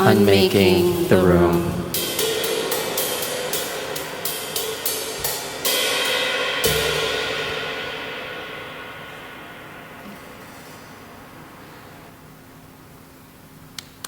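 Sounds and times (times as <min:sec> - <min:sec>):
cymbals struck: 0:00.0 - 0:13.3.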